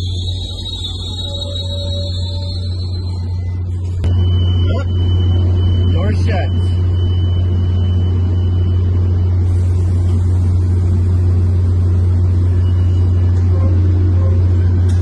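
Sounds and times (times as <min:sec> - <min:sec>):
diesel train idling: 0:00.0 - 0:15.0.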